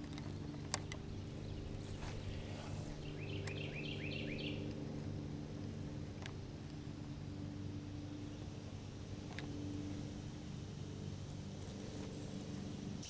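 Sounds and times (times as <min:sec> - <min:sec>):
boat motor hum: 0:00.0 - 0:13.0.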